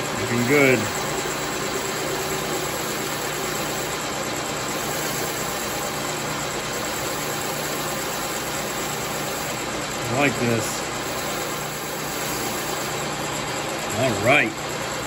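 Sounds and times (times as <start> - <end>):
metal lathe motor hum: 0.0 - 15.0.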